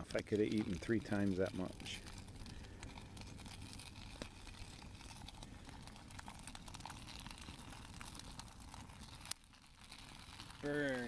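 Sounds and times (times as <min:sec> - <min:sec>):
low steady hiss: 0:00.0 - 0:11.0
plastic pouch crinkling: 0:00.0 - 0:11.0.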